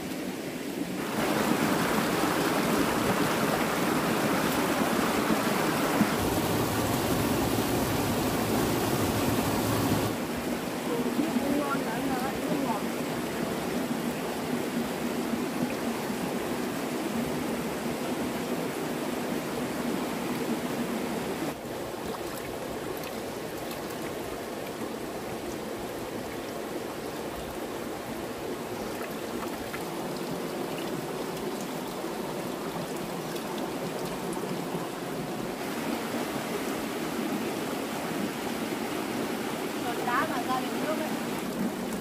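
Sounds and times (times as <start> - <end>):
flowing water rushing: 0.0 - 42.0.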